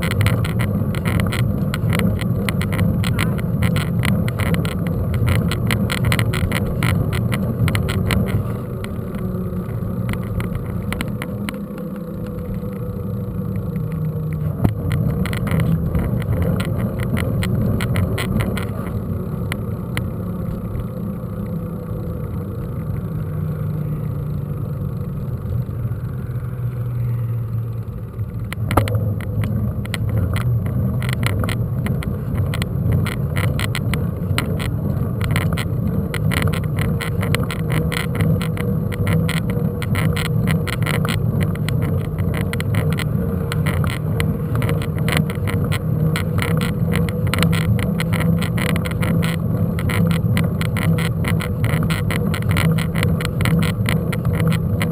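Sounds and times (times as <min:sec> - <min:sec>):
bike rattles and knocks: 0:00.0 - 0:20.7, 0:28.4 - 0:54.9
wind and tyre rumble: 0:00.0 - 0:54.9.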